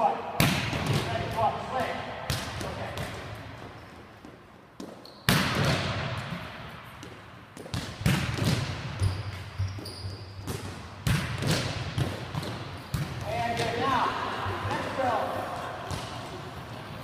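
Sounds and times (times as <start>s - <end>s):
volleyballs hit and bouncing: 0.3s - 17.0s.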